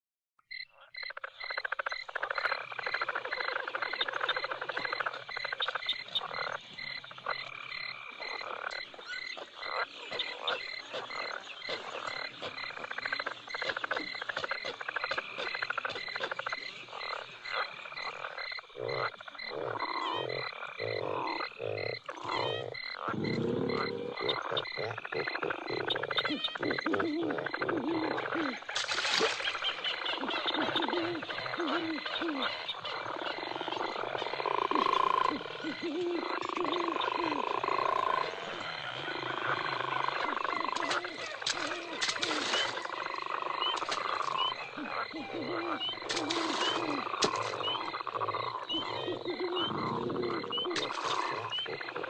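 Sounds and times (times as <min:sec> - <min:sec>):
frogs croaking: 0:00.4 - 0:52.0
pulsing insect chirp: 0:00.5 - 0:52.0.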